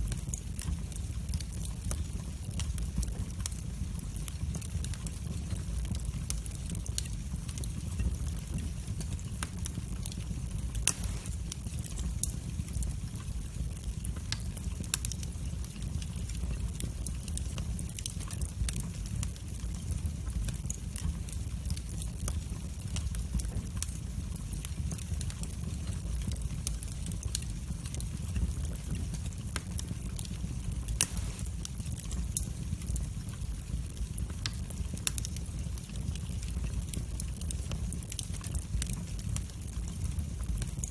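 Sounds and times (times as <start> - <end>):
fire pops: 0.0 - 40.9
wood fire crackling: 0.0 - 40.9.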